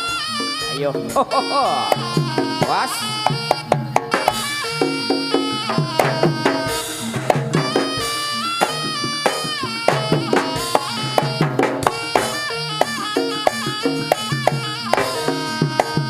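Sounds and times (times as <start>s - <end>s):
reedy wind instrument melody: 0.0s - 16.0s
quick drum strokes: 1.9s - 16.0s.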